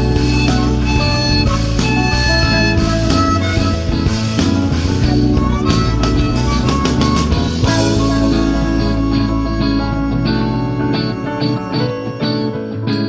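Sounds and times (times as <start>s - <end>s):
instrumental jazz-rock music: 0.0s - 13.0s.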